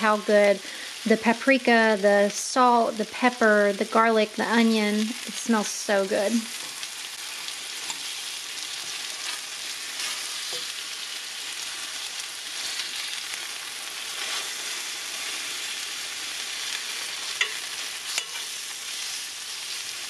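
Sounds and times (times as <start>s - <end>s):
meat sizzling in hot oil: 0.0s - 20.0s.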